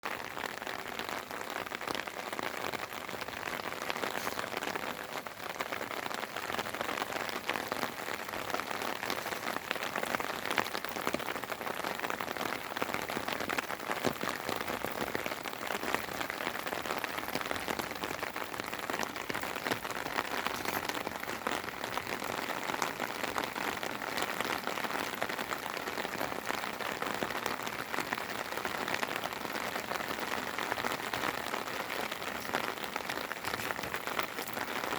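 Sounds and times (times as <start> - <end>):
rain patter: 0.0 - 34.9.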